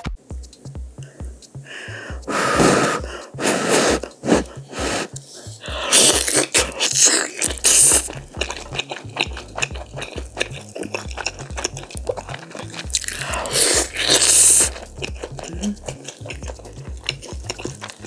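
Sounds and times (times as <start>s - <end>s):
background music with steady beat: 0.0s - 18.0s
person chewing meat: 1.7s - 18.0s.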